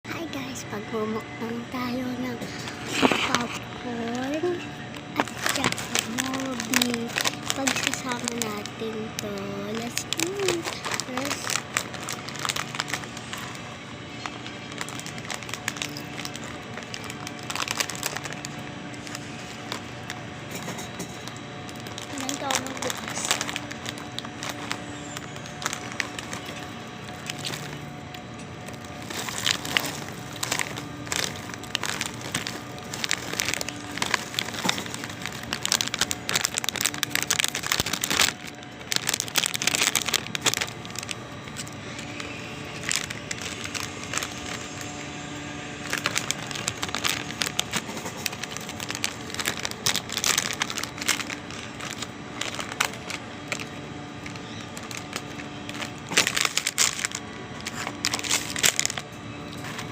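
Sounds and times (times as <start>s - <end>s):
popcorn crunching: 0.1s - 59.9s
packaging crinkling: 1.8s - 59.9s.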